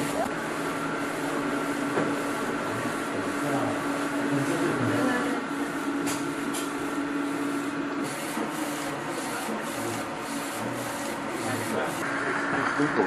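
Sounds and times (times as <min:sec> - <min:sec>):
printer mechanical hum: 0:00.0 - 0:13.0
rhythmic hiss of print carriage: 0:00.0 - 0:13.0.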